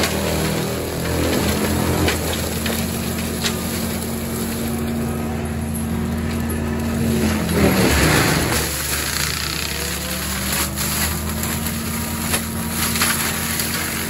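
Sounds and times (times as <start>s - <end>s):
engine and hydraulic drone: 0.0s - 14.0s
mulcher head cutting brush: 0.0s - 14.0s.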